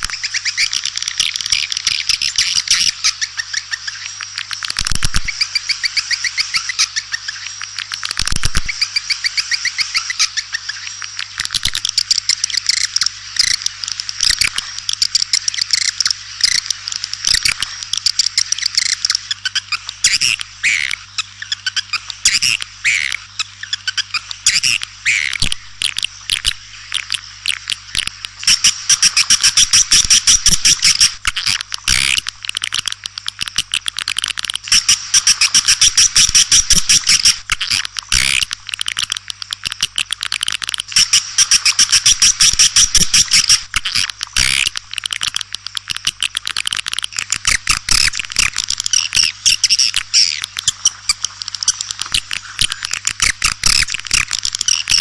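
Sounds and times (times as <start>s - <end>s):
faint steady hum: 0.0s - 55.0s
swiftlets twittering: 5.1s - 33.4s, 34.1s - 40.2s, 40.8s - 55.0s.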